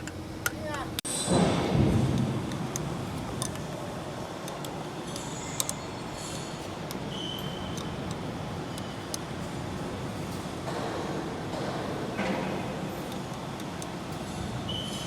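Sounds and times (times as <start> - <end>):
workshop background noise: 0.0 - 15.0.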